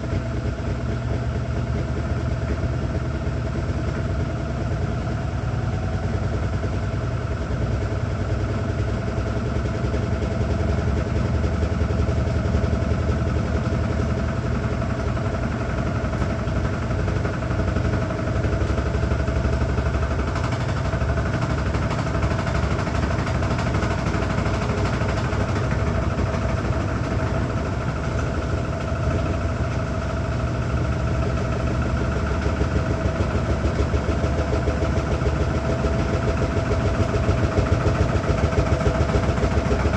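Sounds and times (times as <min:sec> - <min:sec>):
washing machine hum and whine: 0:00.0 - 0:39.9.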